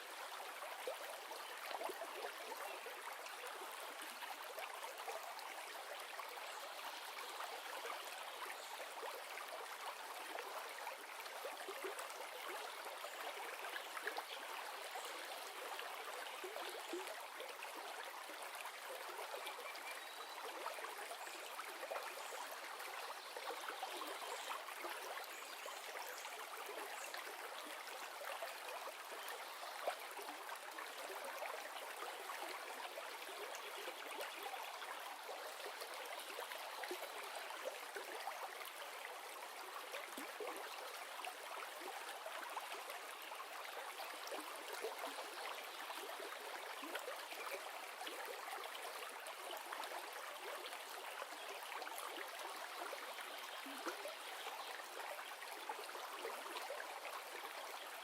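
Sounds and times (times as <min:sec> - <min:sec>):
river flowing water: 0:00.0 - 0:58.0.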